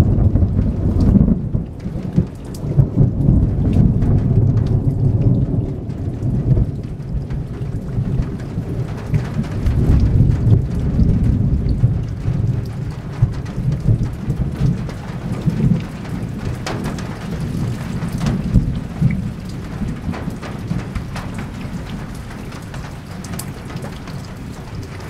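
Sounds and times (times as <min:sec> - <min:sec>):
raindrops on a tin roof: 0:00.0 - 0:25.0
rolling thunder: 0:00.0 - 0:25.0
steady rain: 0:00.0 - 0:25.0.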